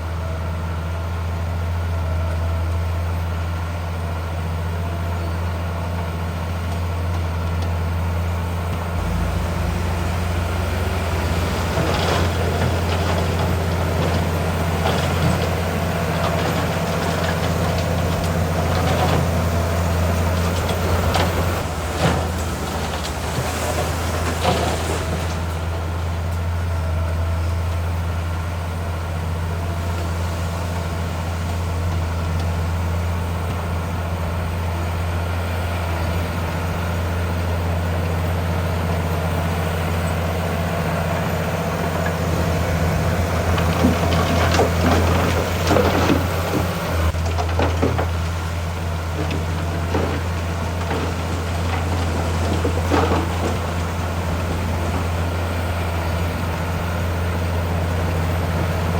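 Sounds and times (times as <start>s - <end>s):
diesel machinery droning: 0.0s - 58.9s.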